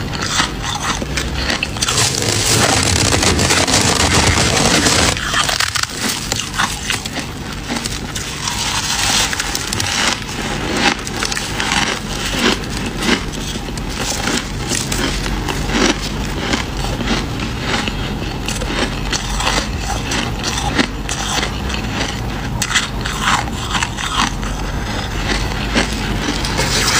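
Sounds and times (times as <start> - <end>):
crunching of frost being chewed: 0.0 - 26.9.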